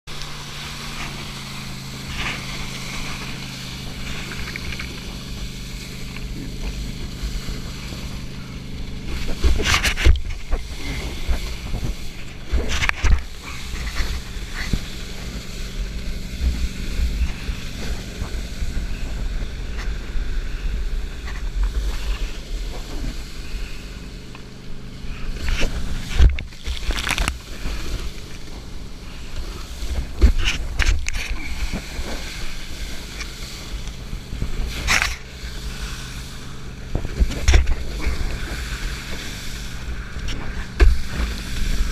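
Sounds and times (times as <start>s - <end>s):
boat engine drone: 0.1s - 41.9s
water rushing and spraying: 0.1s - 41.9s.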